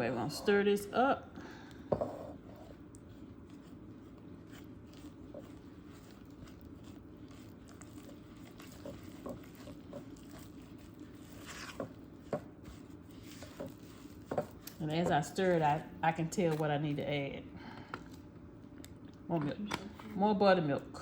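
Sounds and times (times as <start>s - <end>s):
batter stirred in a bowl: 0.0s - 17.0s.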